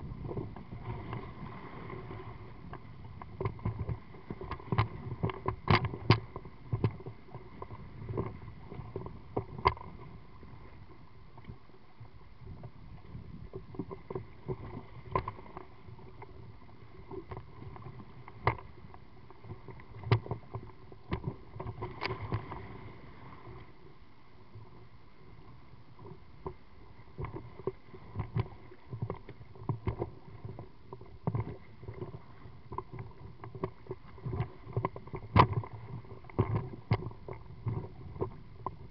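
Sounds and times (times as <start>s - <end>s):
waves slapping against boat: 0.0s - 10.8s, 13.4s - 23.7s, 26.0s - 38.9s.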